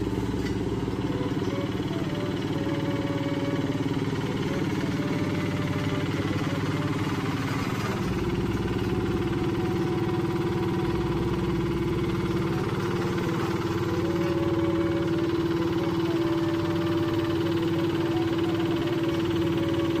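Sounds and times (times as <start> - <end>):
road roller engine running: 0.0 - 20.0.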